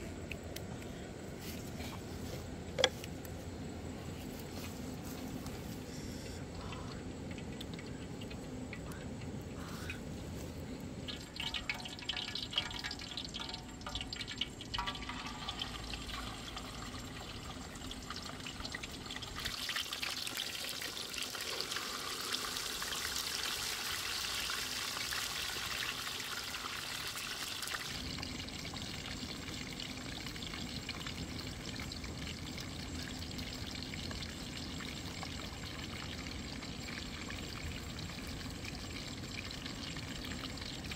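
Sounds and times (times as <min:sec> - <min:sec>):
water splashing and trickling: 0:04.4 - 0:40.9.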